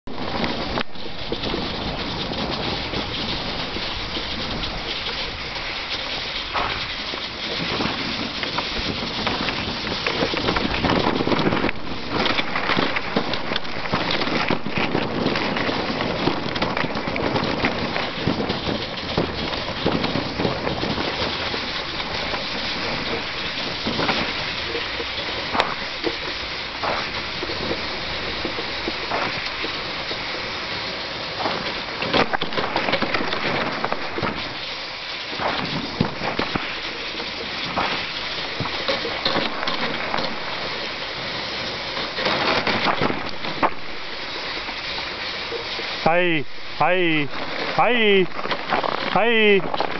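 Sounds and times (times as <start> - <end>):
sled runners scraping over snow: 0.1 - 49.9.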